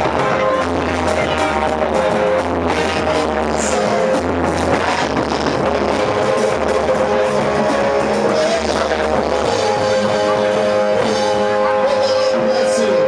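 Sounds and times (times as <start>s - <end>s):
amplified instrumental band music: 0.0s - 13.0s.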